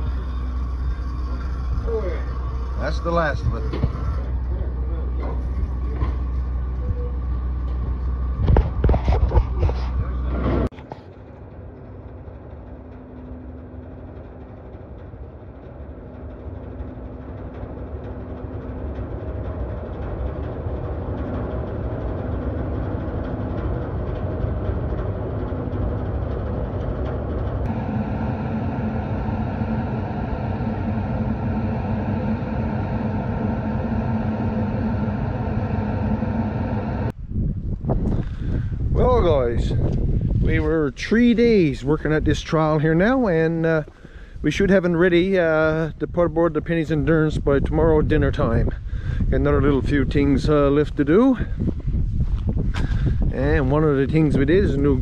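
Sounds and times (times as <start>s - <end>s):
faint steady hum: 0.0s - 47.6s
loud rumble: 0.0s - 55.0s
ship machinery rumbling: 0.0s - 55.0s.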